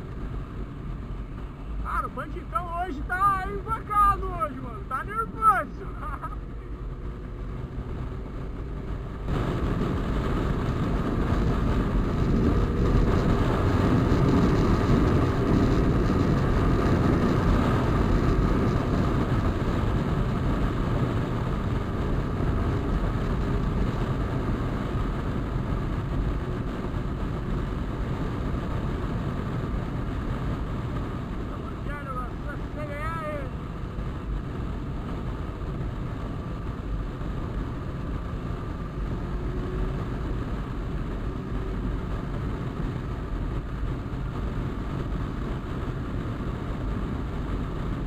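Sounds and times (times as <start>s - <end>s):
motorcycle engine running: 5.6s - 48.0s.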